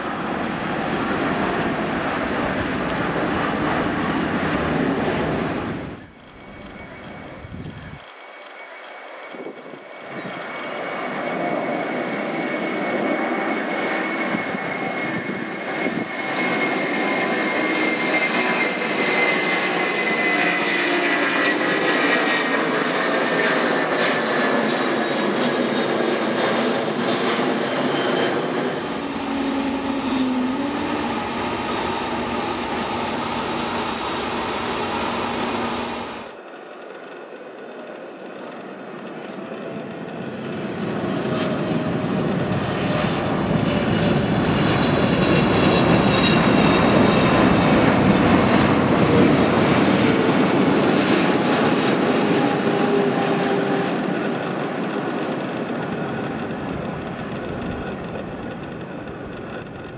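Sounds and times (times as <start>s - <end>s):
high jet engine whine: 0.0s - 59.9s
jet engines roaring: 0.0s - 59.9s
jet taxiing: 0.0s - 59.9s.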